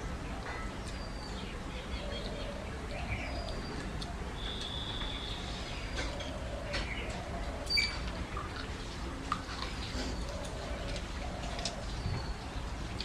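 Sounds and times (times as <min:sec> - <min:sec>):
birds calling: 0:00.0 - 0:13.0
people eating by hand: 0:00.0 - 0:13.0
birds cooing: 0:01.3 - 0:12.7.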